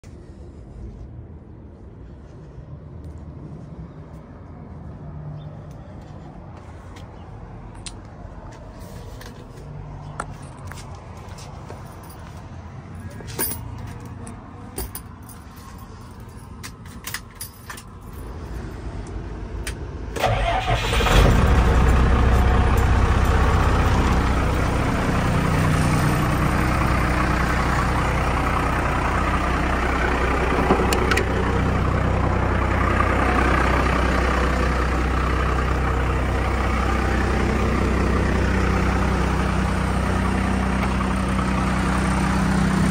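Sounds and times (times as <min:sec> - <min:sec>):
diesel engine cranking and idling: 0:00.0 - 0:42.9.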